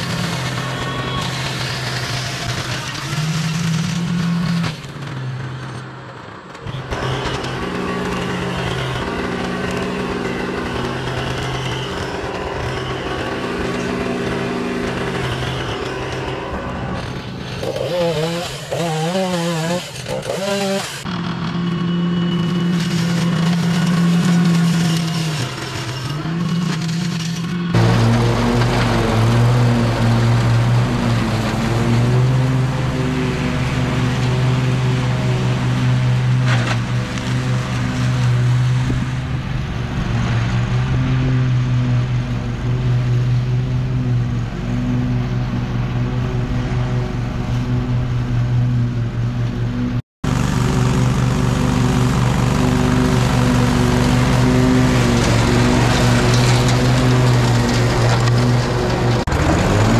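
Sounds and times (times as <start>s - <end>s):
mower deck cutting thick grass: 0.0s - 5.1s, 6.6s - 59.9s
riding lawn mower engine running: 0.0s - 59.9s.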